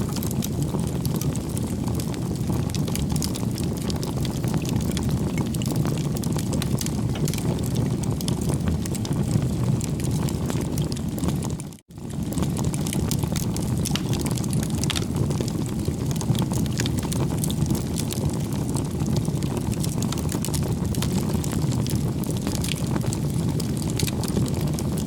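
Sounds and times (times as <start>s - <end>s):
burning wood crackling and popping: 0.0s - 25.0s
low rumble of flame: 0.0s - 25.0s.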